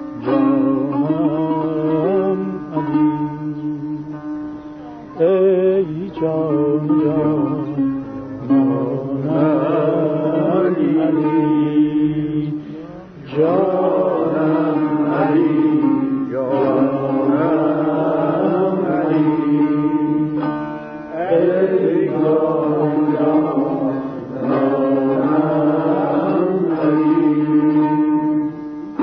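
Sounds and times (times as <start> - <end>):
man singing: 0.0 - 4.2, 5.1 - 20.5, 21.1 - 29.0
tanbur playing: 0.0 - 29.0.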